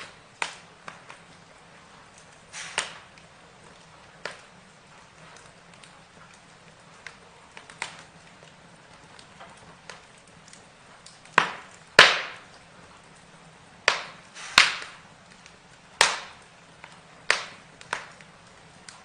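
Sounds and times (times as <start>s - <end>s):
burning wood crackling and popping: 0.0s - 19.0s
faint steady hiss: 0.0s - 19.0s.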